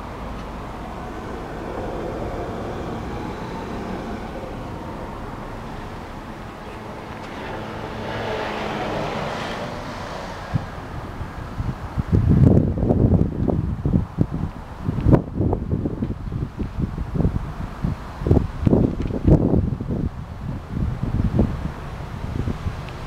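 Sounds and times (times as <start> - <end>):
vehicle and road noise: 0.0 - 23.0.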